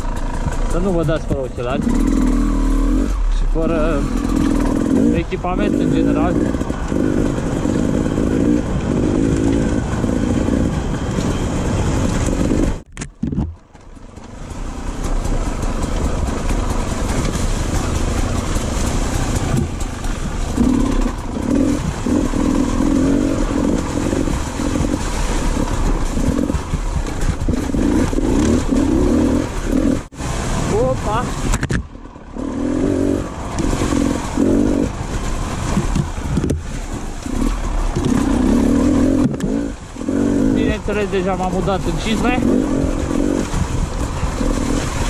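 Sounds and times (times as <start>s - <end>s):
dirt bike engine revving: 0.0s - 12.8s, 14.2s - 45.0s.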